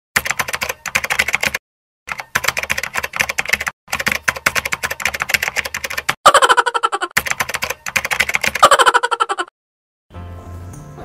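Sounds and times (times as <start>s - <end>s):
computer keyboard typing: 0.2s - 9.0s.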